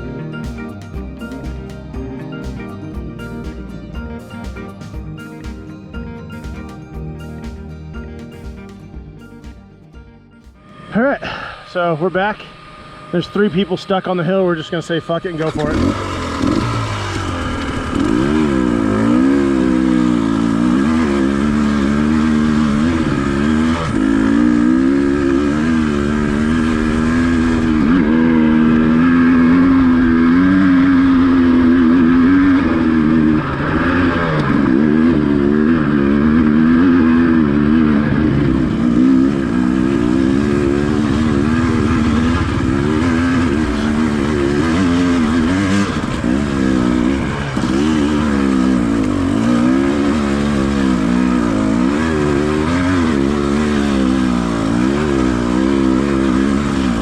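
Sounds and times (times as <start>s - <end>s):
dirt bike engine revving: 10.8s - 57.0s.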